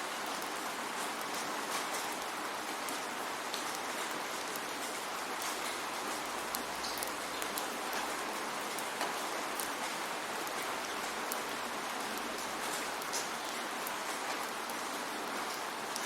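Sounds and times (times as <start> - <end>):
rain drops ticking on surface: 0.0 - 16.0.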